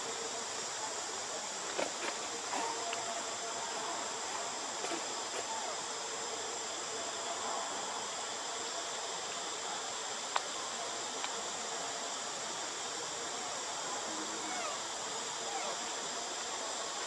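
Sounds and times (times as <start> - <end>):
insects chorus drone: 0.0 - 17.0.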